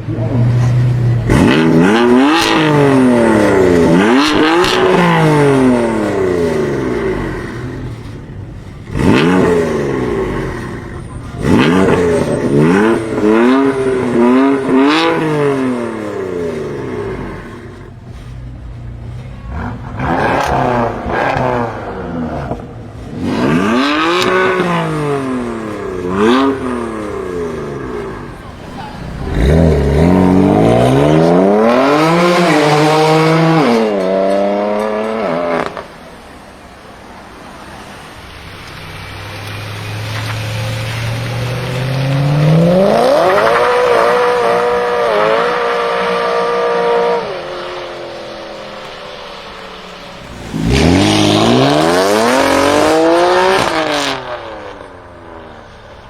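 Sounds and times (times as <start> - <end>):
exhaust cracks: 0.0 - 36.4, 38.5 - 56.0
car engine revving: 0.0 - 38.0, 38.6 - 56.0.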